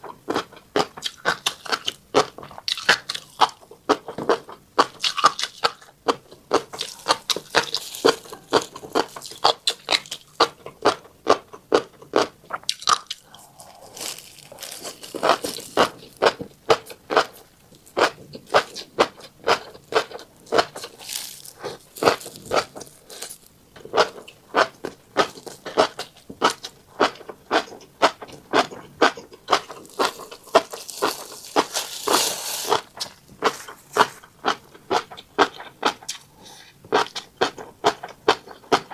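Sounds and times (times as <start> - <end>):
seeds crunching while eating: 4.8 - 36.3.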